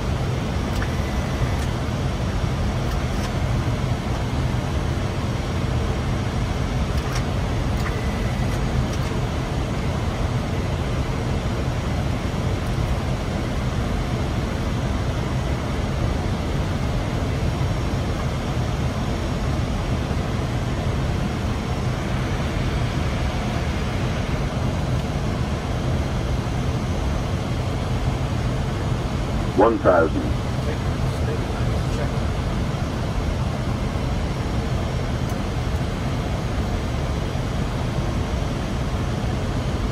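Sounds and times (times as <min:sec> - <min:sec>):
aircraft cockpit rumble and hiss: 0:00.0 - 0:39.9.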